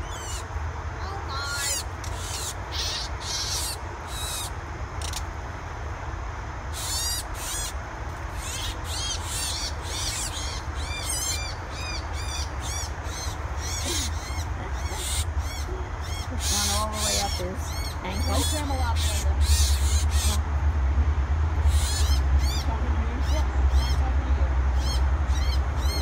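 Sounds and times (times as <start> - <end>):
small birds chirping: 0.0 - 5.4, 6.6 - 20.5, 21.6 - 26.0
steady low rumble: 0.0 - 26.0.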